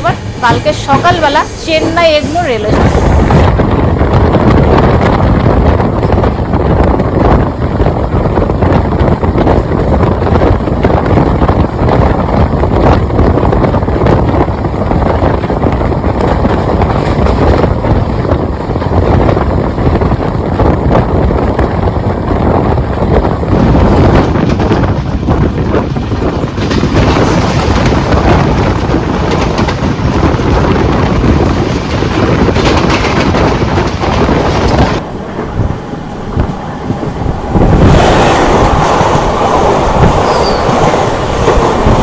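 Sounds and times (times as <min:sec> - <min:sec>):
train wheels rumbling on track: 0:00.0 - 0:42.0
wind rushing on microphone: 0:00.0 - 0:42.0.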